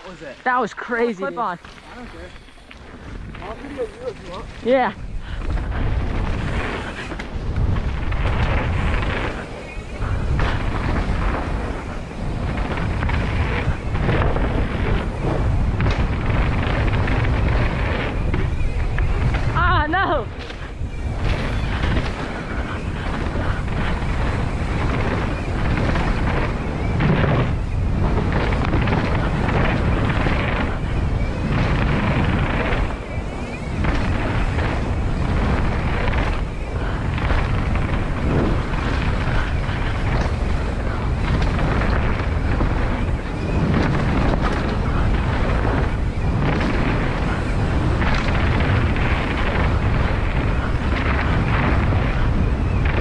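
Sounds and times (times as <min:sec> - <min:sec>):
bike rolling on dirt trail: 0:00.0 - 0:53.0
wind buffeting microphone: 0:00.0 - 0:53.0.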